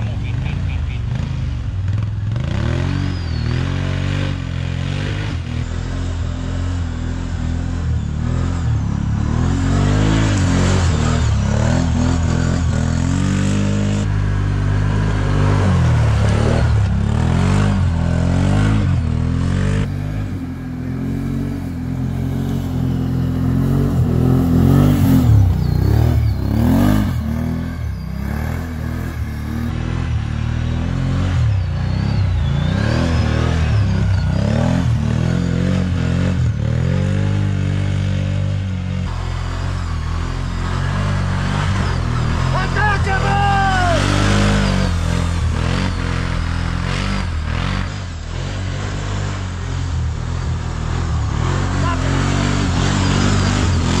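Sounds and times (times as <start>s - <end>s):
atv engines revving: 0.0s - 54.0s.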